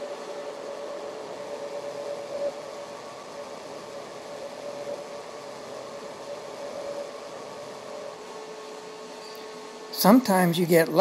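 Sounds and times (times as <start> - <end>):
lathe humming: 0.0 - 11.0
steady hiss: 0.0 - 11.0.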